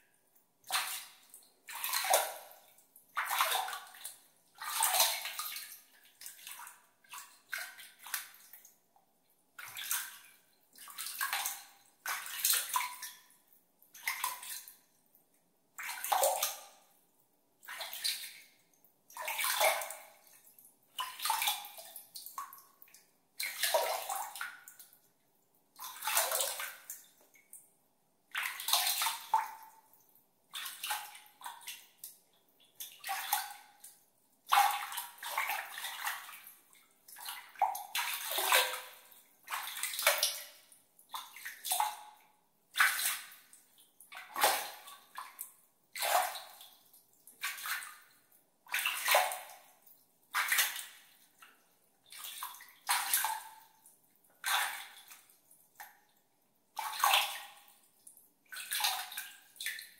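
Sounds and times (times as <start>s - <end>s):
water splashing in tub by hand: 0.6s - 8.5s, 9.6s - 13.3s, 14.0s - 14.8s, 15.8s - 16.9s, 17.6s - 25.0s, 25.8s - 27.1s, 28.3s - 29.9s, 30.5s - 32.2s, 32.8s - 53.8s, 54.4s - 56.0s, 56.8s - 57.9s, 58.5s - 59.9s.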